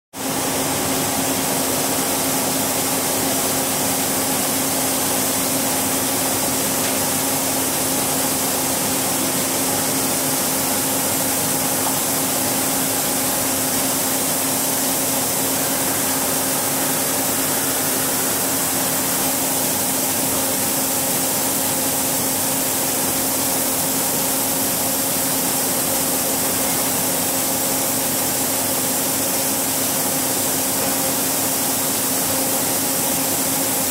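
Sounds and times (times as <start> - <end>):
machine hum with steady tone: 0.2 - 33.9.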